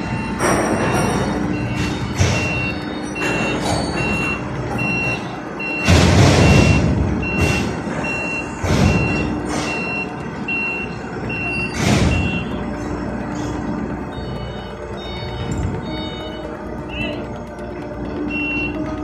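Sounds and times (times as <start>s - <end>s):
high-pitched warning beeps: 0.0s - 19.0s.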